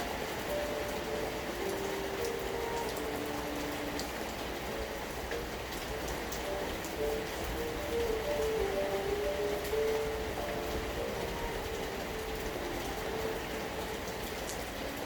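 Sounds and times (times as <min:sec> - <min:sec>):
slow melody of held notes: 0:00.0 - 0:15.0
steady rain: 0:00.0 - 0:15.0.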